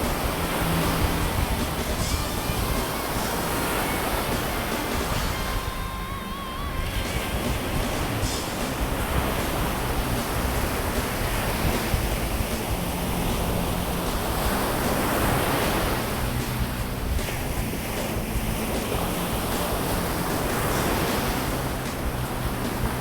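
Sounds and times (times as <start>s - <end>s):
sea waves washing onto beach: 0.0s - 23.0s
wind buffeting microphone: 0.0s - 23.0s.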